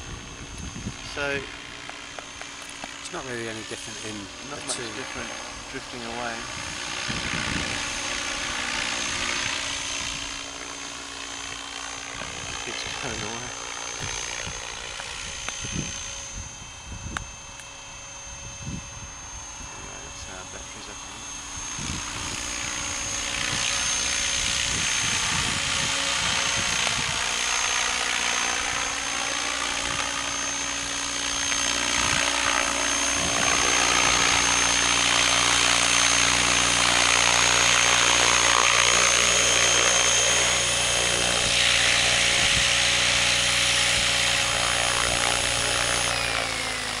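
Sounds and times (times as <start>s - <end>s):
high whine falling in pitch: 0.0s - 47.0s
model helicopter rotor running: 0.0s - 47.0s.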